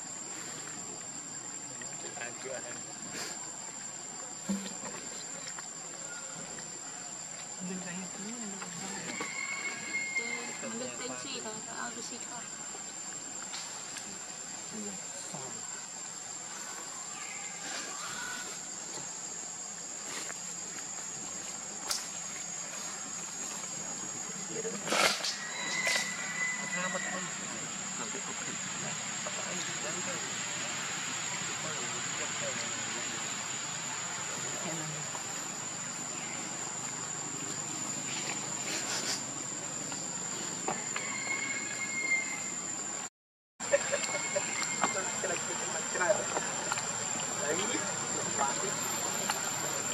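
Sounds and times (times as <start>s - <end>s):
background hiss: 0.0s - 49.9s
high-pitched insect drone: 7.4s - 42.9s, 43.6s - 49.9s.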